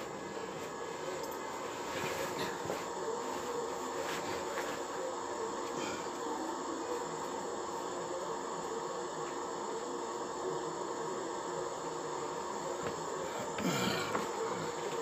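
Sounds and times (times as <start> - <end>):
faint steady tones: 0.0 - 15.0
steady background noise: 0.0 - 15.0.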